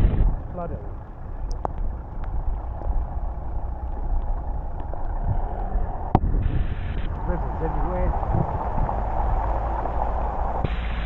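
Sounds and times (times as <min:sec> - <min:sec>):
wind and rain on microphone: 0:00.0 - 0:11.0.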